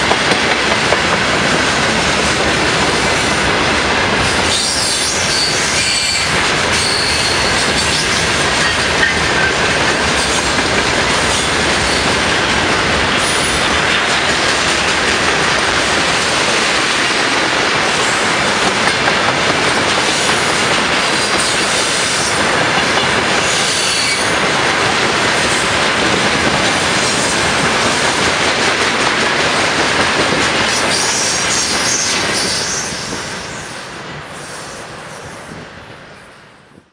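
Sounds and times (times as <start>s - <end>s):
train wheels rolling on rails: 0.0s - 36.9s.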